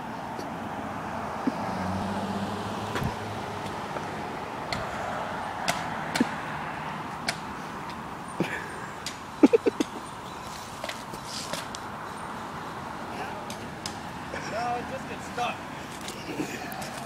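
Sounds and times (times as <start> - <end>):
car passing: 0.0 - 17.0
traffic noise: 0.0 - 17.0.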